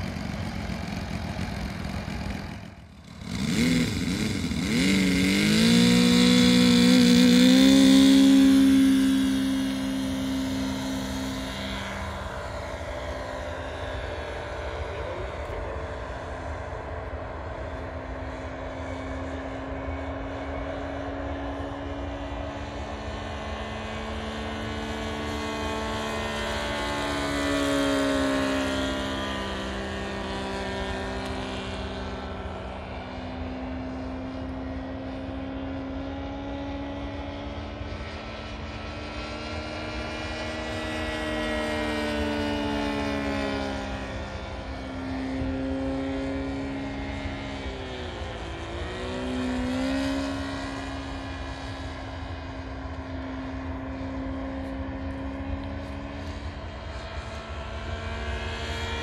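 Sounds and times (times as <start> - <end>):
model airplane engine drone: 0.0 - 59.0.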